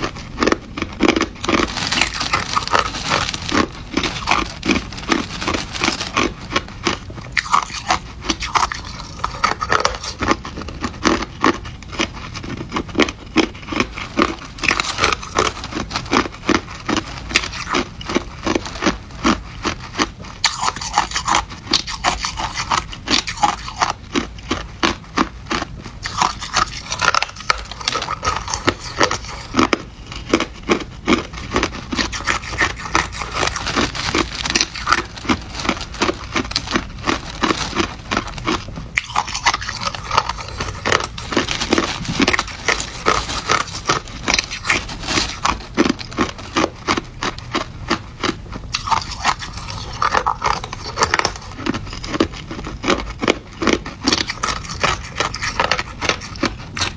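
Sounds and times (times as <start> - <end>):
crushed ice being chewed: 0.0 - 56.9.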